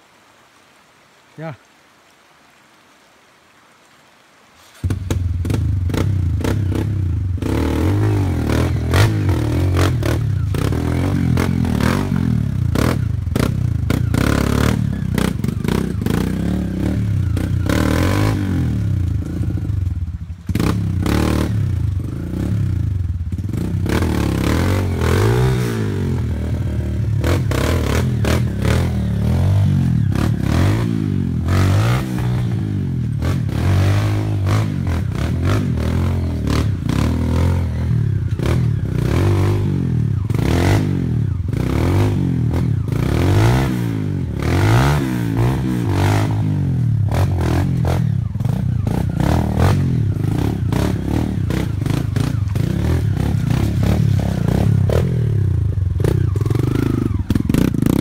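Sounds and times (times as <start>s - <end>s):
dirt bike engine revving: 4.8s - 19.8s, 20.5s - 58.0s.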